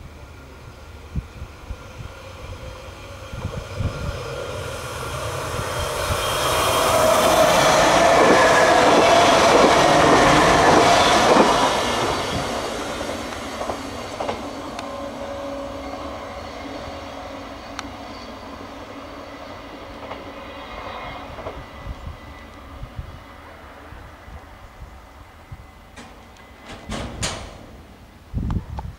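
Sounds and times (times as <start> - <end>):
train passing: 0.0 - 28.7
wheels rumbling on rail: 0.0 - 28.9.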